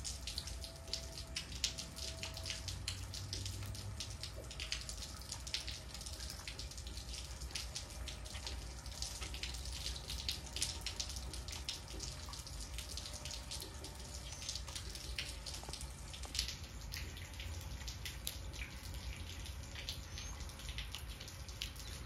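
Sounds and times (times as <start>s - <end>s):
light rain pattering: 0.0s - 22.0s.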